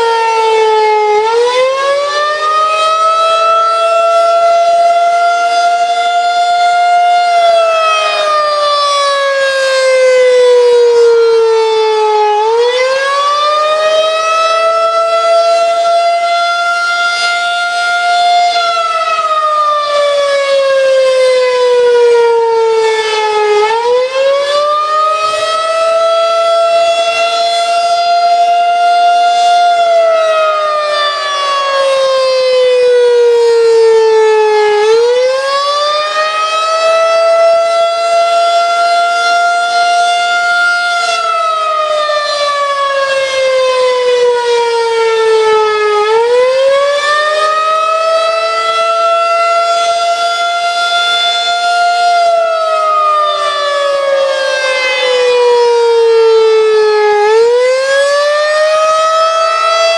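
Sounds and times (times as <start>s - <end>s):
tornado siren wailing: 0.0s - 59.9s.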